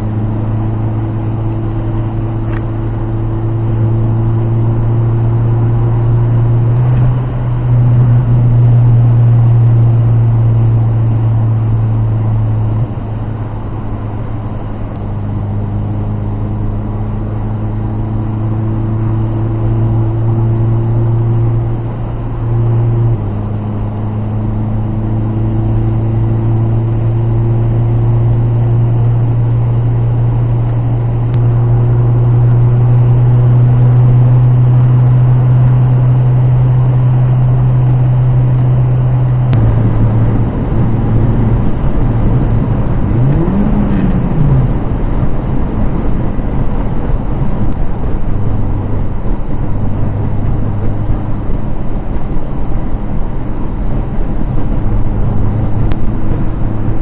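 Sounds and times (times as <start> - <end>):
car engine and road noise drone: 0.0 - 57.0.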